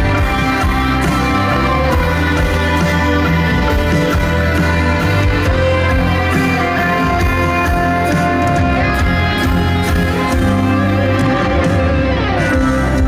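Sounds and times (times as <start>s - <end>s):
live pop band instrumental: 0.0s - 13.0s.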